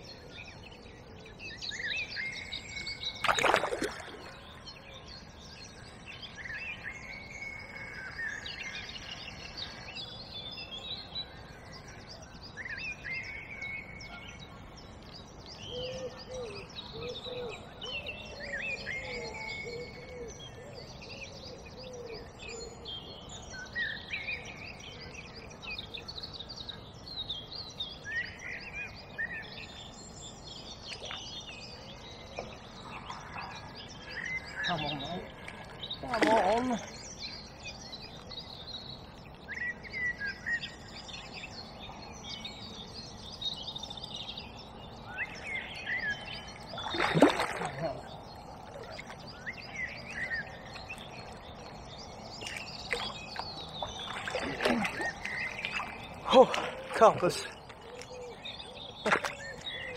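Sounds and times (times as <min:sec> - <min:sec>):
songbirds chirping and whistling: 0:00.0 - 0:59.9.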